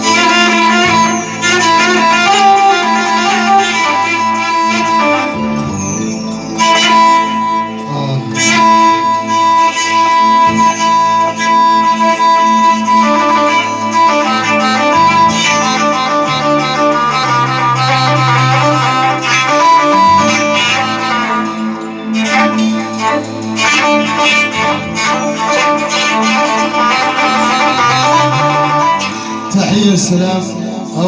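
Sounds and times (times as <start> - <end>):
moving bass line: 0.0 - 31.0
string melody: 0.0 - 31.0.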